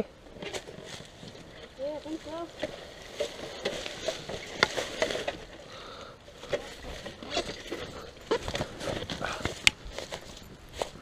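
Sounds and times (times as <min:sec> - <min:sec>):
dry leaves and sticks crunching: 0:00.3 - 0:11.0.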